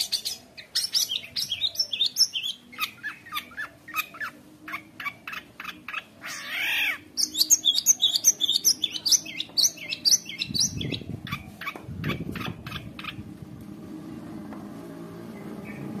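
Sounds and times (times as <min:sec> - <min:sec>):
shrike singing: 0:00.0 - 0:13.3.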